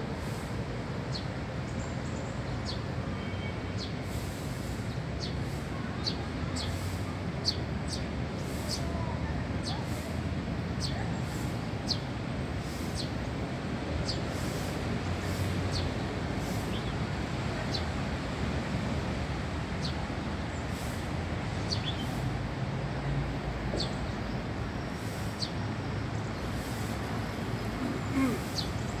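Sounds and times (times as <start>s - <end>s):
low hum of city traffic: 0.0s - 29.0s
sparrows chirping: 1.1s - 10.0s, 10.7s - 13.3s, 14.0s - 18.0s, 19.6s - 22.3s, 23.8s - 29.0s.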